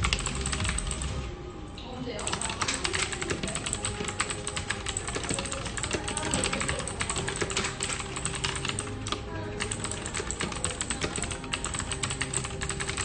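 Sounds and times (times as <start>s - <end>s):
fast keyboard typing: 0.0s - 1.2s, 2.2s - 13.0s.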